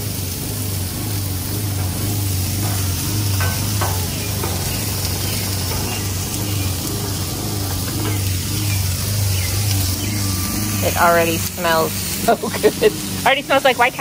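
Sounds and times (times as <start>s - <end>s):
low hum: 0.0s - 14.0s
metal spatula scraping griddle: 0.0s - 14.0s
onions sizzling in oil: 0.0s - 14.0s.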